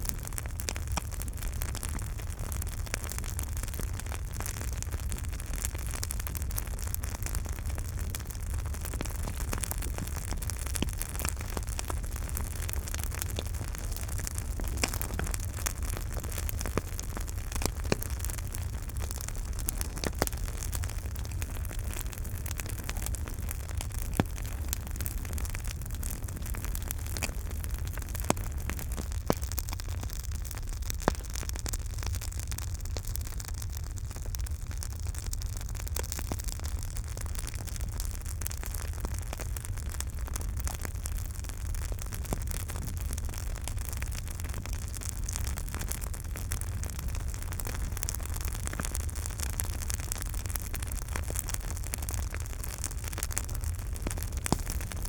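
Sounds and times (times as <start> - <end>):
fire pops: 0.0 - 33.7, 34.4 - 55.0
campfire crackling: 0.0 - 55.0.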